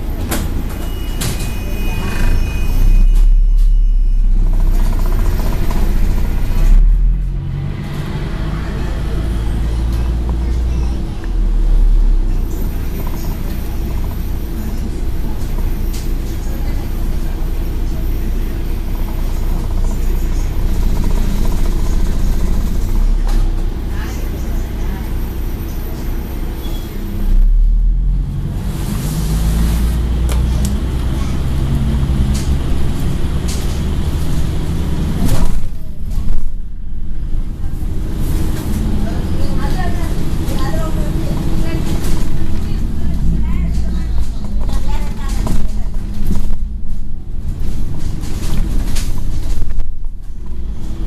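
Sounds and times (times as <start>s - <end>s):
bus diesel engine drone: 0.0s - 51.0s.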